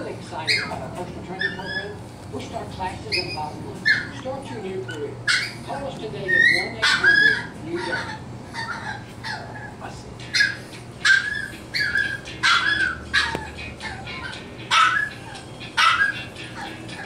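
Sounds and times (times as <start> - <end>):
puppies whimpering and yipping: 0.3 - 2.0, 2.9 - 17.0.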